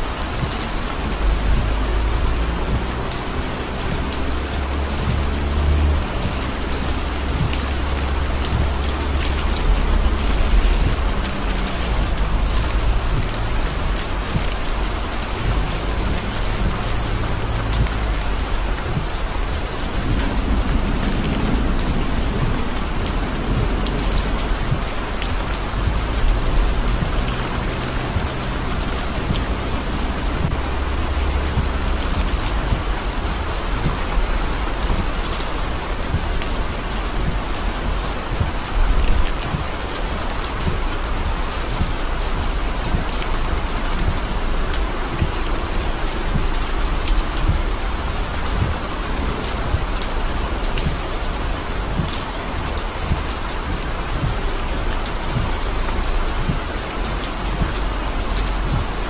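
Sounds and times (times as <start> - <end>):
heavy rain: 0.0 - 59.0
low rumble: 0.0 - 59.0
rain drop ticks: 0.0 - 59.0.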